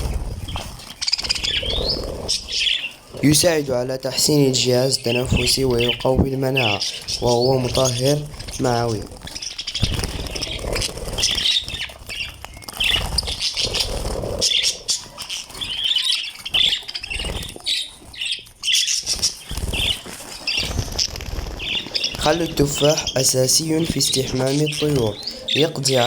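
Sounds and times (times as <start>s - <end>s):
small birds chirping: 0.0s - 26.0s
wings flapping: 0.0s - 26.0s.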